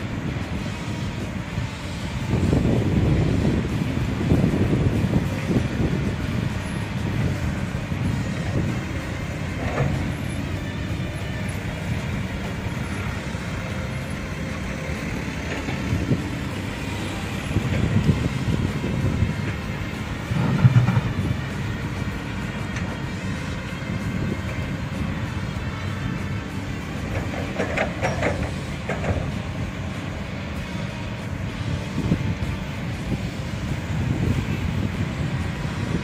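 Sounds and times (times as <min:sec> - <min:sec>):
excavator diesel engines under load: 0:00.0 - 0:36.0.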